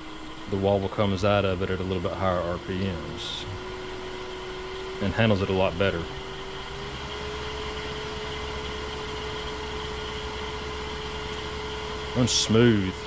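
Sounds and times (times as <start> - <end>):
wood lathe whine: 0.0 - 13.0.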